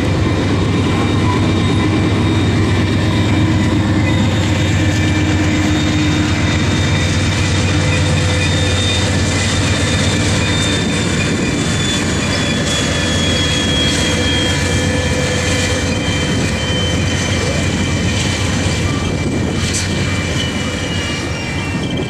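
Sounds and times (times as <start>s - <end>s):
freight train rolling past: 0.0s - 22.0s.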